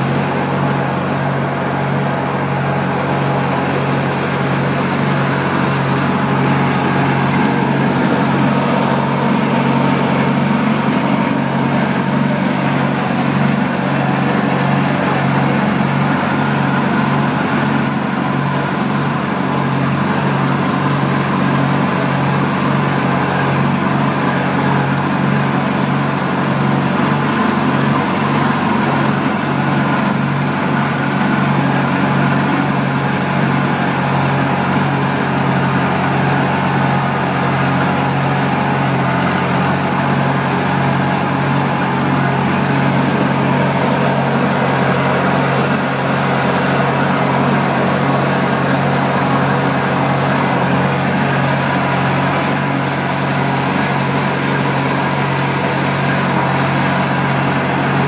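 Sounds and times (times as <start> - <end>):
tractor engine running steadily: 0.0 - 58.0.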